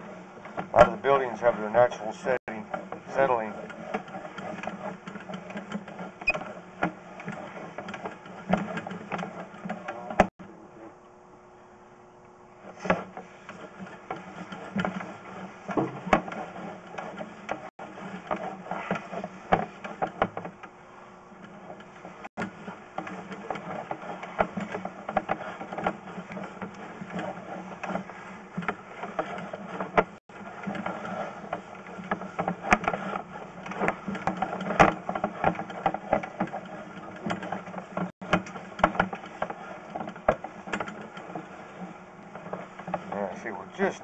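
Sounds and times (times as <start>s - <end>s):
cable clicking and rattling: 0.0s - 10.4s, 12.6s - 44.0s
mechanical hum: 0.0s - 44.0s.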